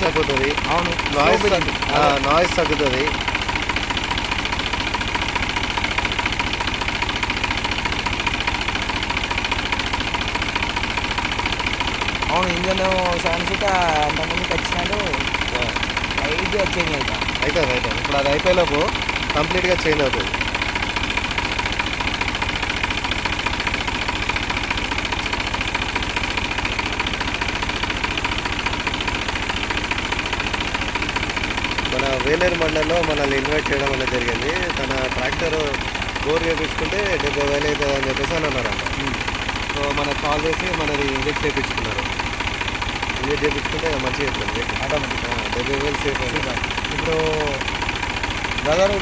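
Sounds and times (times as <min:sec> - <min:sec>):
tractor diesel engine idling: 0:00.0 - 0:49.0.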